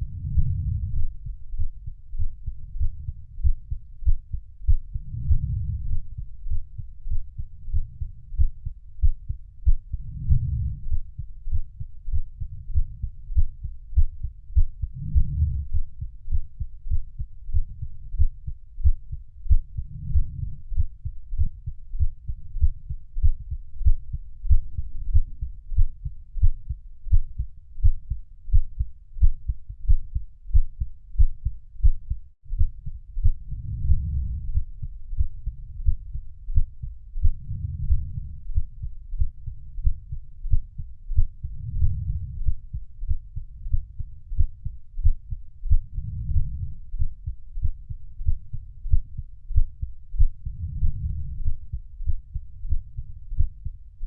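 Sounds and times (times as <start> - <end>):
heartbeat thumps: 0.0 - 54.0.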